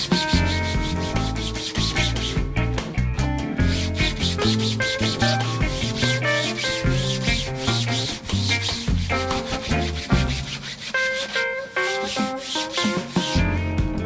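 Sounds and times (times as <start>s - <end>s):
hand sanding strokes: 0.0s - 2.3s, 3.7s - 13.4s
background music with bass line: 0.0s - 10.6s, 13.1s - 14.0s.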